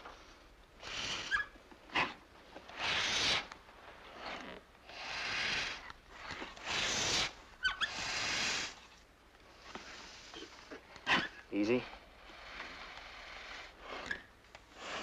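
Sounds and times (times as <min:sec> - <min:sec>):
air pump hissing strokes: 0:00.0 - 0:09.0, 0:09.6 - 0:15.0.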